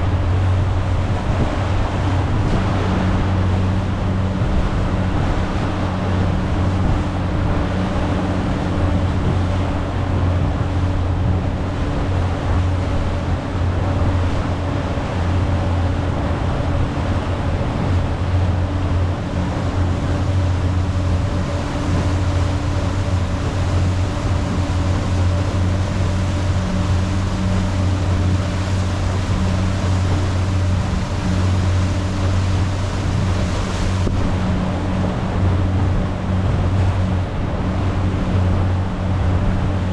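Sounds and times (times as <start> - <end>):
speedboat engine droning: 0.0 - 39.9
water rushing: 0.0 - 39.9
wind: 0.0 - 39.9.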